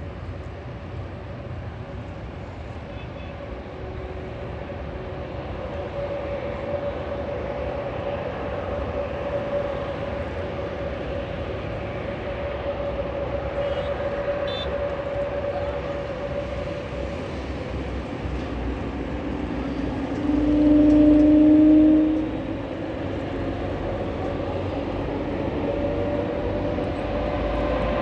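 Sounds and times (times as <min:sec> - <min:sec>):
aircraft engine humming: 0:00.0 - 0:28.0.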